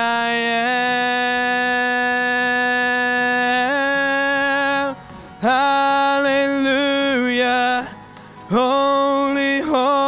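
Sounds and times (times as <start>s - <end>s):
man singing long held notes: 0.0s - 10.0s.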